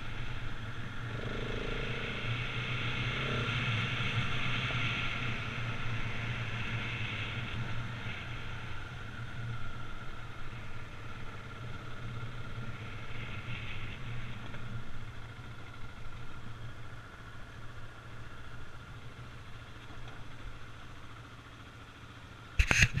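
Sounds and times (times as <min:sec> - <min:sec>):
motorcycle engine running: 0:00.0 - 0:23.0
wind: 0:00.0 - 0:23.0.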